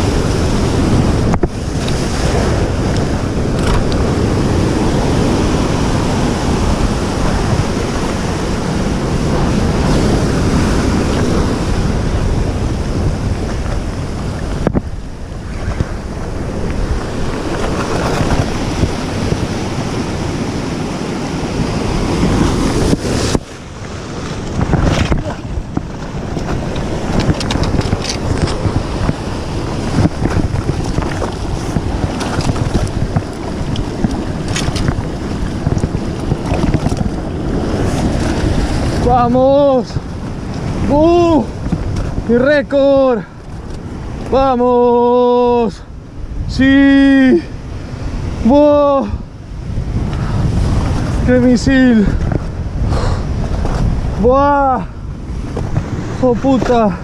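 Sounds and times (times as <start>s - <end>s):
surf washing over rocks: 0.0s - 57.0s
wind buffeting microphone: 0.0s - 57.0s.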